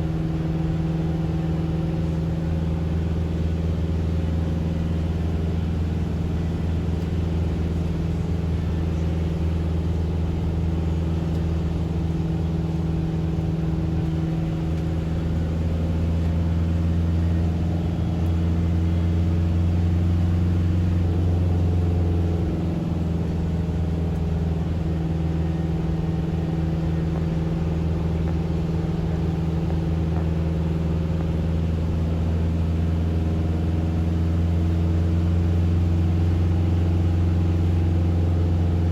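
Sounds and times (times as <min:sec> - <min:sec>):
car cabin engine and road noise: 0:00.0 - 0:38.9.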